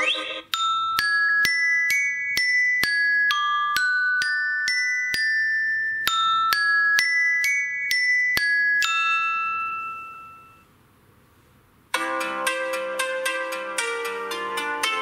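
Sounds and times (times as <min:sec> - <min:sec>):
phone ringtone melody: 0:00.0 - 0:10.7, 0:12.0 - 0:15.0.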